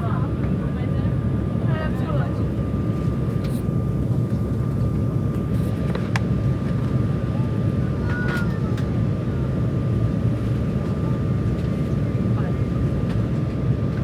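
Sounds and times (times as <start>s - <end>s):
jet cabin engine rumble: 0.0s - 14.0s.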